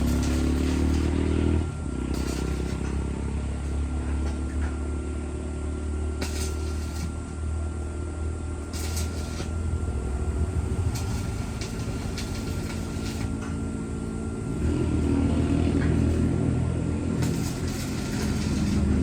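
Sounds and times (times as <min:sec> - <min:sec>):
welding hiss and crackle: 0:00.0 - 0:04.8, 0:05.9 - 0:07.5, 0:08.6 - 0:19.0
welding machine humming: 0:00.0 - 0:19.0.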